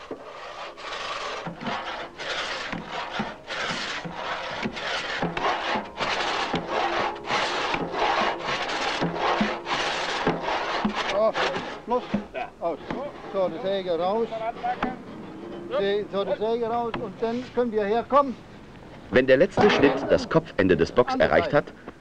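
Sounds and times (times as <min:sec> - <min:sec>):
saw rasping through wood: 0:00.0 - 0:18.3.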